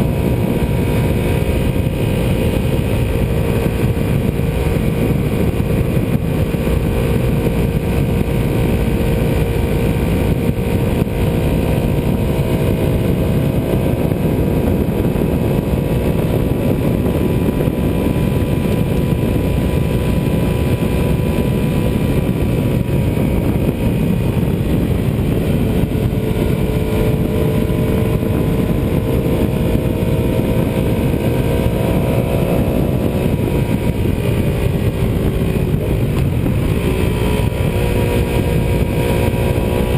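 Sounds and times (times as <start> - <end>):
heavy rushing noise: 0.0 - 39.9
motorcycle engine cruising: 0.0 - 39.9.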